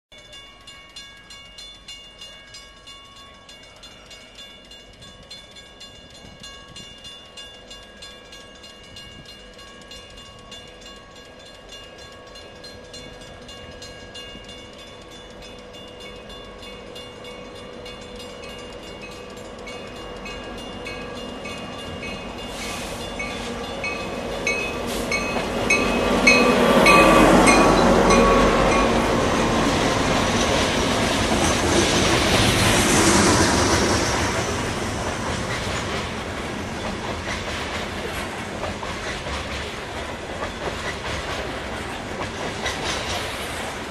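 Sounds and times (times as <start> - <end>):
train bell ringing: 0.1 - 43.9
freight train passing: 0.2 - 43.9.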